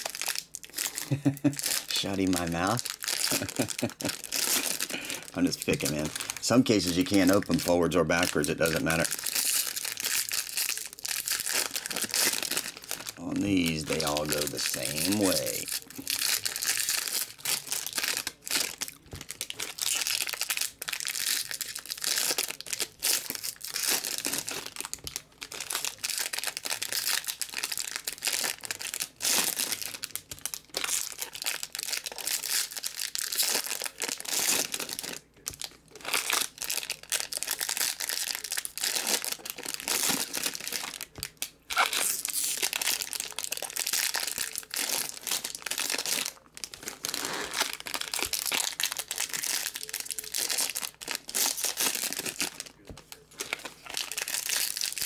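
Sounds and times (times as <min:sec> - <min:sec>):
foil wrappers crinkling and tearing: 0:00.0 - 0:55.0.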